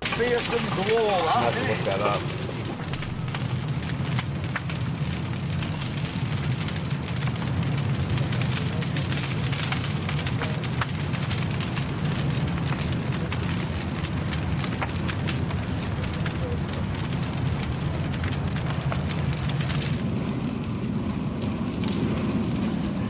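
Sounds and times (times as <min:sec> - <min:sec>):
large fire crackling: 0:00.0 - 0:23.0
low steady rumble: 0:00.0 - 0:23.0.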